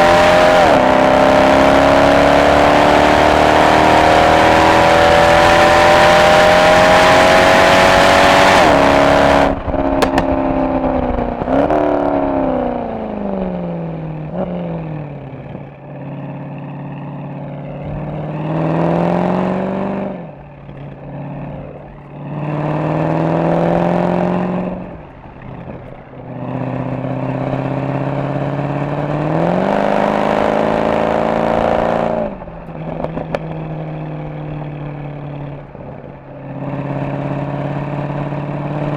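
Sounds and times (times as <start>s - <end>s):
car exhaust accelerating: 0.0s - 38.9s
exhaust crackles: 0.0s - 38.9s.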